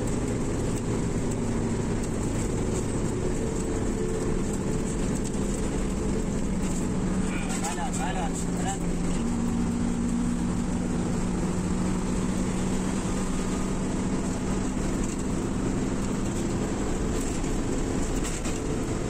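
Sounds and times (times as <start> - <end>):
bus engine hum: 0.0 - 19.0
road and tyre noise: 0.0 - 19.0.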